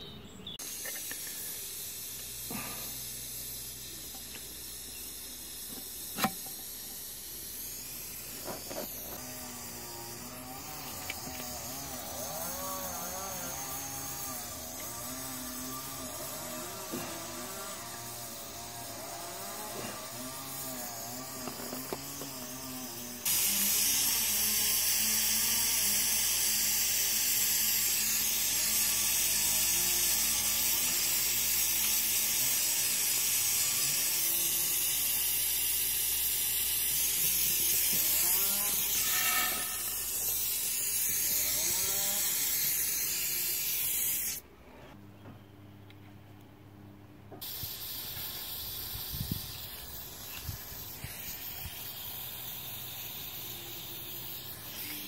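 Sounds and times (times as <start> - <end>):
gas torch flame hissing: 0.6 - 44.4, 47.4 - 55.0.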